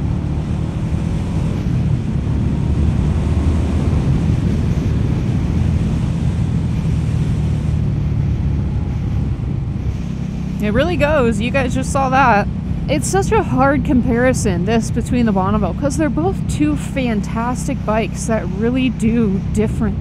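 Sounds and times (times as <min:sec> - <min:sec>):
motorcycle engine accelerating: 0:00.0 - 0:20.0
wind rushing over microphone: 0:00.0 - 0:20.0.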